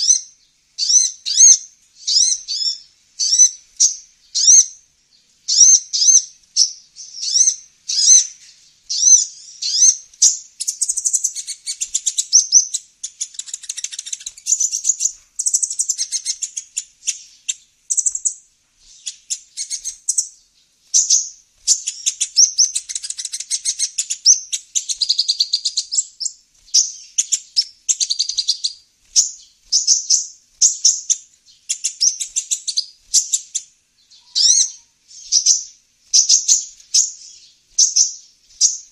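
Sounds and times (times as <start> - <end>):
sunbird chirps and trills: 0.0 - 38.9.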